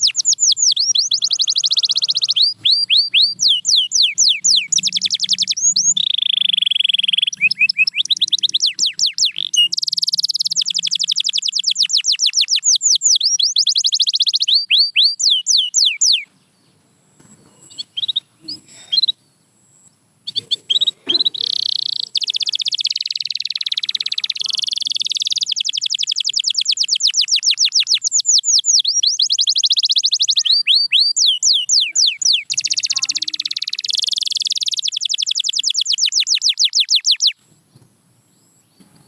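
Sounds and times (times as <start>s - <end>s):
canary singing trills: 0.0s - 16.8s, 17.4s - 37.4s.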